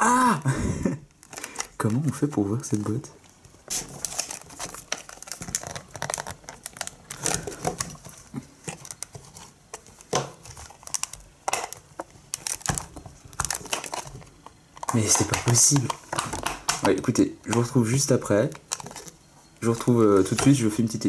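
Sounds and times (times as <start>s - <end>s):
plastic box crinkling and clicking: 3.7s - 21.0s.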